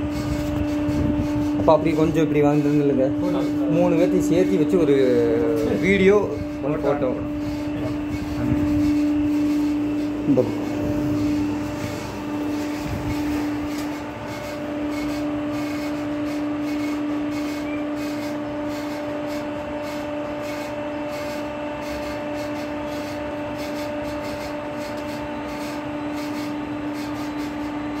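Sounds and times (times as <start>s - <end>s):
hydraulic motor and pump humming: 0.0s - 28.0s.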